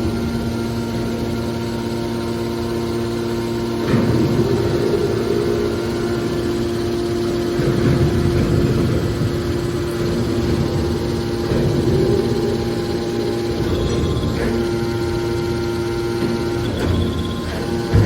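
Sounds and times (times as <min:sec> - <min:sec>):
hydraulic baler motor hum: 0:00.0 - 0:18.0.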